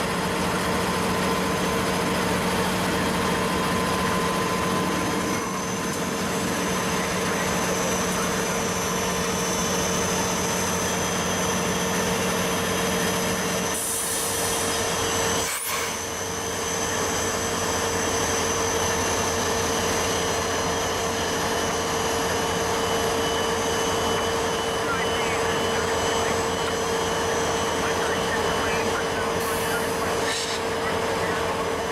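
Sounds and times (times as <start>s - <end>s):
train wheels on rails: 0.0s - 31.9s.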